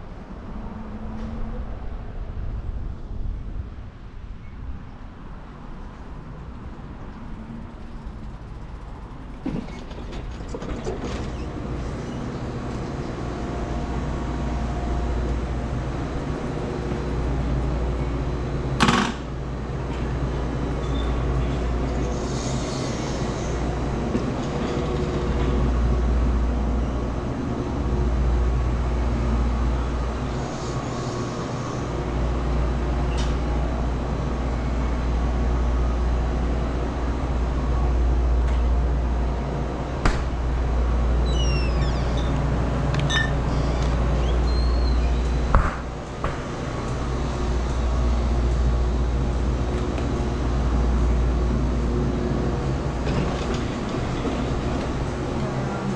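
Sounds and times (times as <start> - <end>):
road and tyre noise: 0.0 - 55.9.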